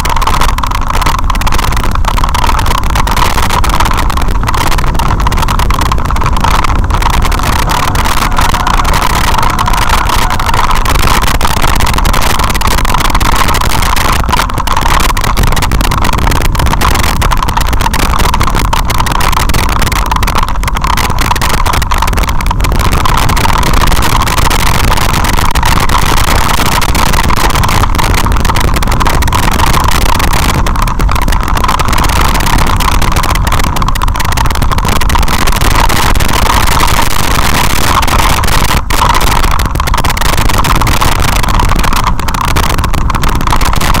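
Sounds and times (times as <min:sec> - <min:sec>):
clicking and jolting: 0:00.0 - 0:44.0
vehicle rumbling on gravel track: 0:00.0 - 0:44.0.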